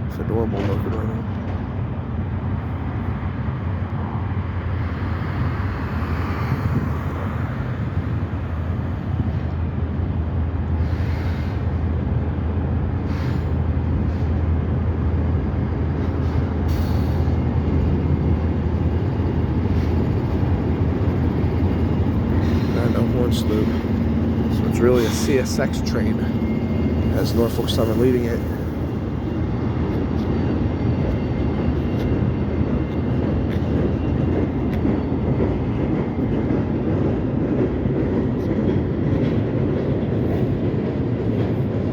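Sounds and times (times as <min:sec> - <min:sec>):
freight train rumbling: 0:00.0 - 0:41.9.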